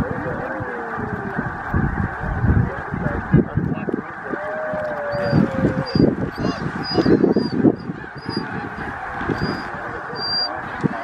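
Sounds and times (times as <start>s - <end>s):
snow geese honking: 0.0s - 11.0s.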